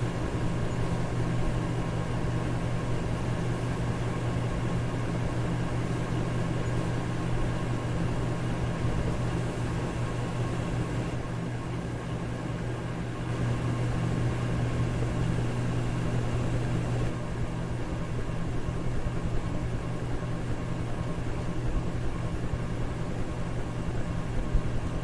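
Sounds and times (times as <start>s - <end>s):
fan air rushing: 0.0s - 25.0s
low motor hum: 0.0s - 25.0s.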